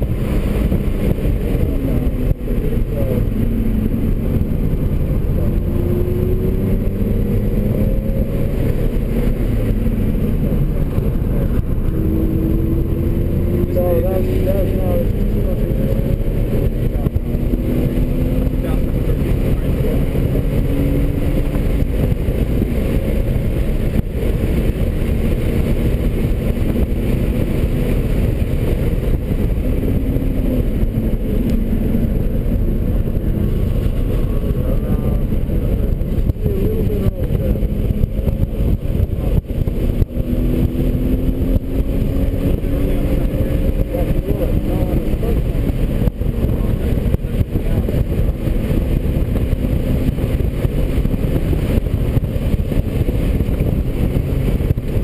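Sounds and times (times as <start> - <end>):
car engine revving: 0.0 - 55.0
road and tyre rumble: 0.0 - 55.0.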